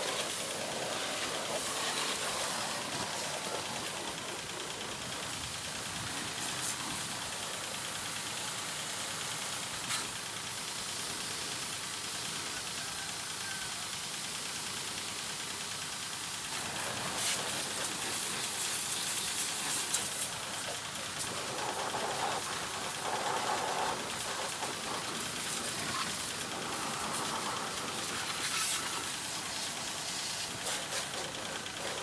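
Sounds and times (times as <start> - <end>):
water spraying onto motorcycle: 0.0 - 32.0.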